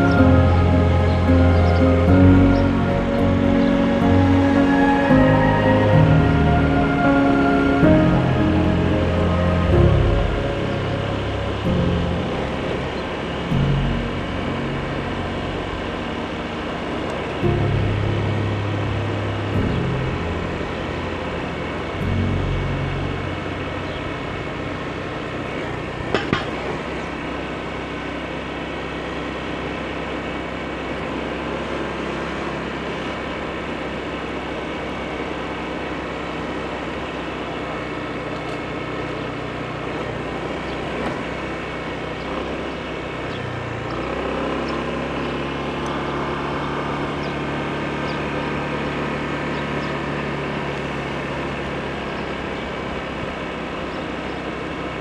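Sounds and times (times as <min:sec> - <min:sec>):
road noise: 0:00.0 - 0:55.0
scooter engine running: 0:08.2 - 0:55.0.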